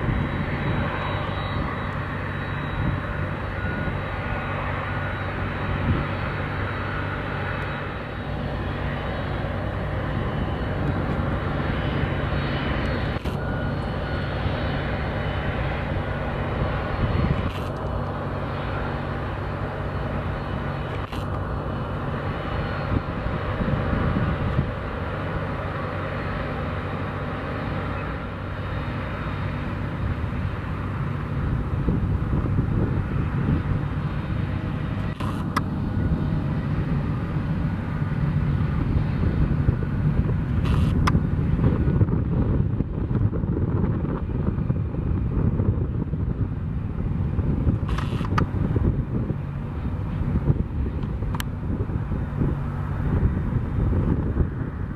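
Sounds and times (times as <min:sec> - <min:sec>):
jet engines droning: 0:00.0 - 0:54.9.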